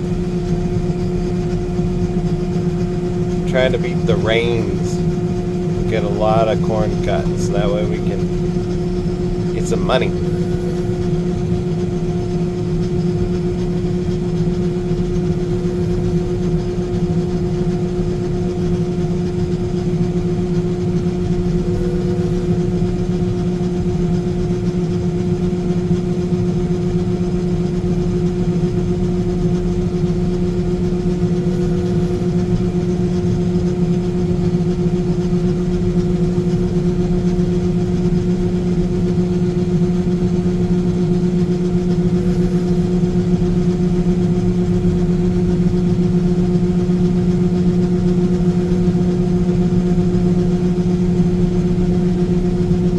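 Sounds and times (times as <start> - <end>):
combine harvester drone: 0.0 - 52.9.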